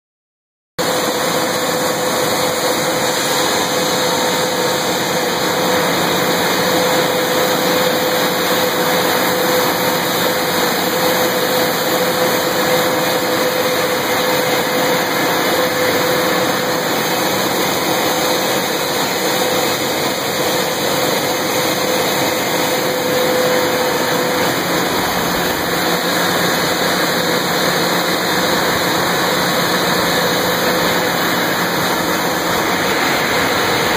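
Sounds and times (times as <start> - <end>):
mining machinery drone: 0.8 - 33.9.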